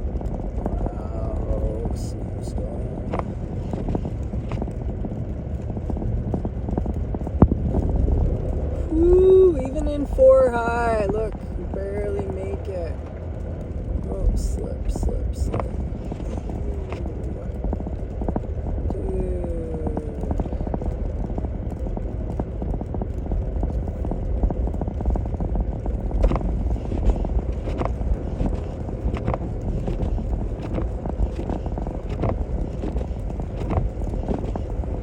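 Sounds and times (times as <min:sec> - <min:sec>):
engine and tyre rumble: 0:00.0 - 0:35.0.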